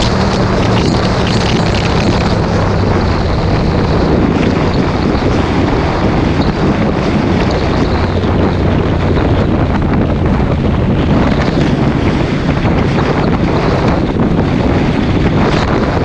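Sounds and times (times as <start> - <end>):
motorcycle engine and tyres drone: 0.0 - 16.0
wind buffeting microphone: 0.0 - 16.0.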